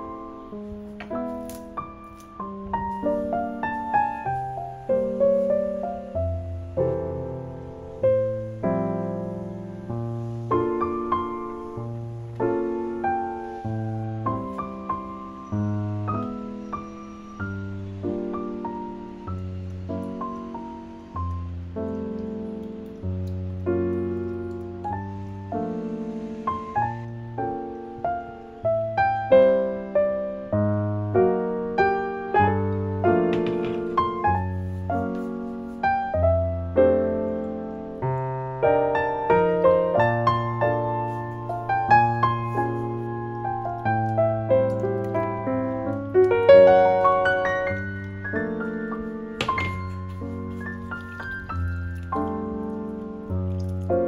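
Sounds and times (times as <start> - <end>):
gentle piano chords: 0.0 - 54.0.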